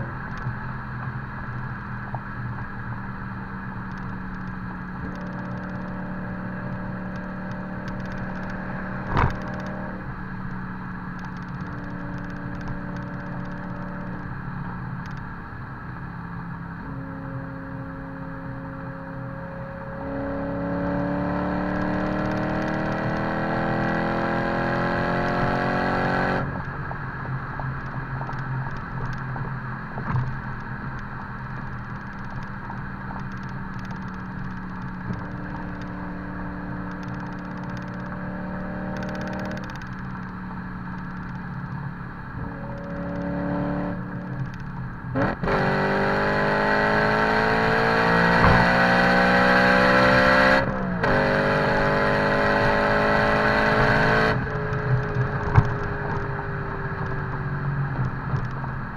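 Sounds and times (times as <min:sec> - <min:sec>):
car engine revving through exhaust: 0:00.0 - 0:28.2, 0:32.3 - 0:58.9.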